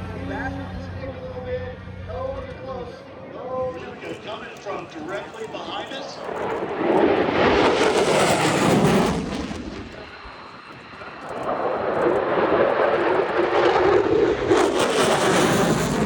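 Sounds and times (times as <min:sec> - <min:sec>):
military jet engine roar: 0:02.2 - 0:16.0.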